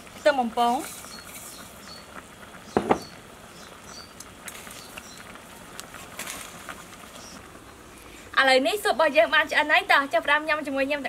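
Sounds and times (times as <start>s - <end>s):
soup simmering with pops: 0.0s - 11.0s.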